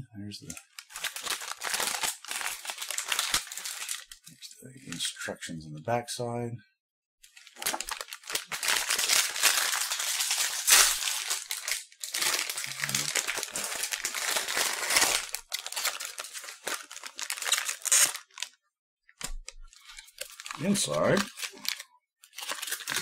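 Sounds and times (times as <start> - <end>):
plastic packet crinkling: 0.4 - 4.2, 7.2 - 18.6, 19.2 - 23.0.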